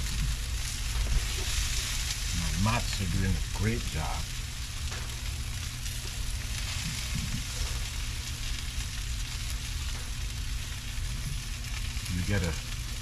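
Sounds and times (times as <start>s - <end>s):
low rumble: 0.0s - 13.0s
meat sizzling on grill: 0.0s - 13.0s.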